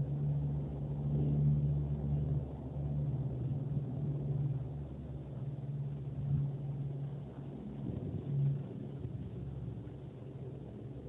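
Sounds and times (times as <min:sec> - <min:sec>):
turboprop aircraft drone: 0:00.0 - 0:11.0.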